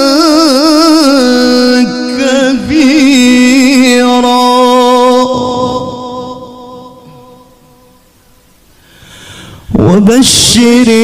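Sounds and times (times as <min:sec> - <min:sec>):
man reciting melodically over pa: 0:00.0 - 0:08.2, 0:09.3 - 0:11.0.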